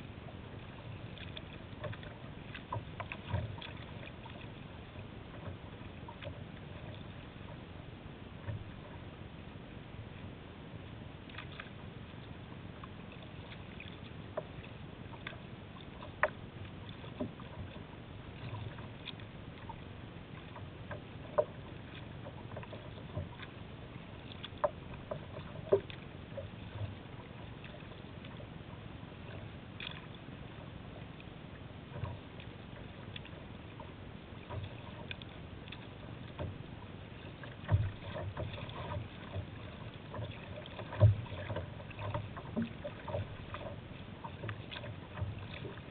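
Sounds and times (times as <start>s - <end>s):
water lapping against kayak: 0.0s - 45.9s.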